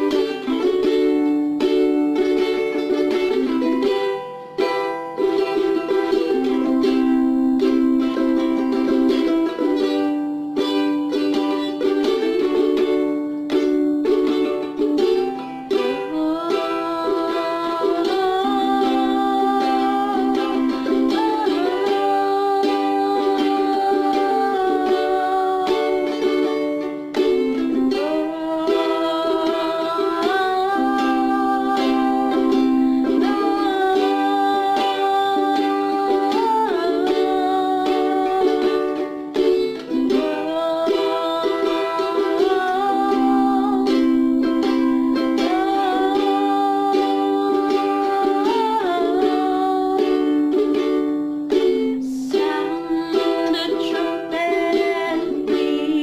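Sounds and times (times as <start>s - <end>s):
plucked string instrument music: 0.0s - 56.0s.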